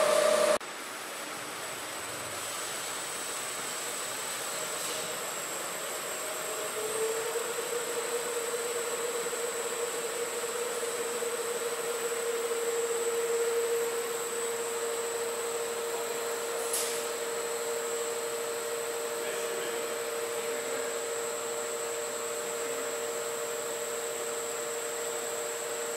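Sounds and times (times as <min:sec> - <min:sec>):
mixer humming and hissing: 0:00.0 - 0:25.9.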